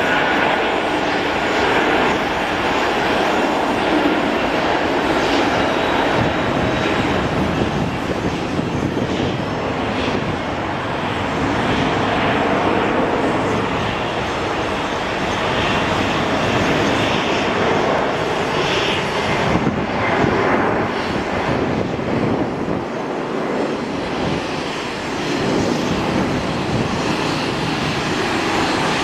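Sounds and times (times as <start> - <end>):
jet engines roaring at takeoff: 0.0 - 29.0.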